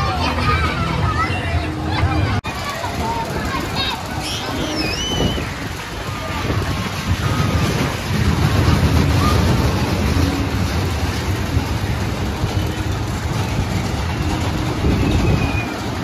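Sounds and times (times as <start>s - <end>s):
faint voices: 0.0s - 16.0s
roller coaster rumbling on steel track: 0.0s - 16.0s.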